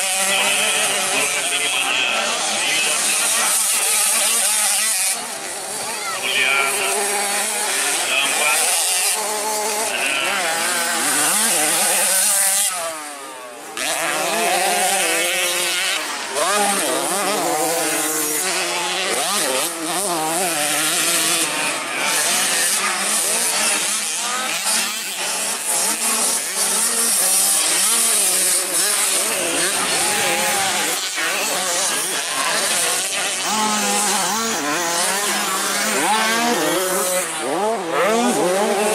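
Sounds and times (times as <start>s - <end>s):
small motocross engines racing: 0.0s - 38.9s.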